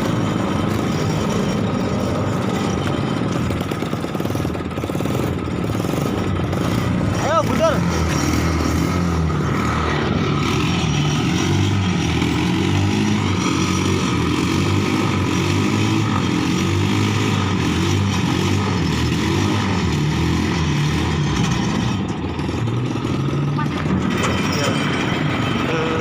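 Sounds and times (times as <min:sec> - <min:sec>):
motorcycle engine running under load: 0:00.0 - 0:26.0.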